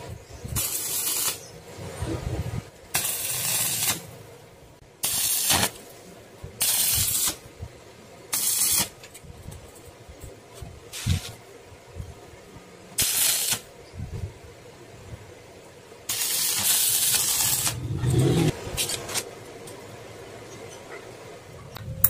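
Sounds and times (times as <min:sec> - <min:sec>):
arc welder crackling hiss: 0:00.0 - 0:15.3, 0:16.0 - 0:19.9.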